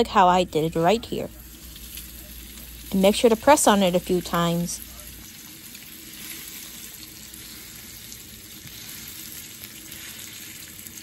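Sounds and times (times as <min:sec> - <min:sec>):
steak sizzling in hot oil: 0:01.3 - 0:11.0.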